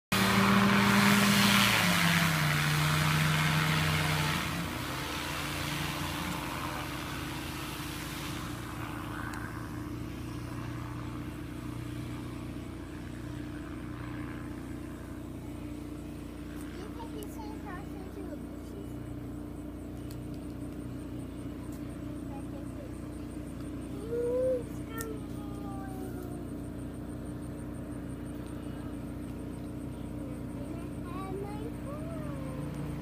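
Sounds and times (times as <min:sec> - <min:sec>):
engine and propeller running: 0:00.1 - 0:33.0.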